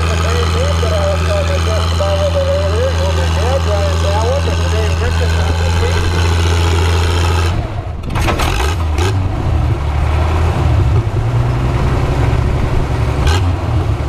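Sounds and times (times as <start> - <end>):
tractor engine under load: 0.0 - 14.0.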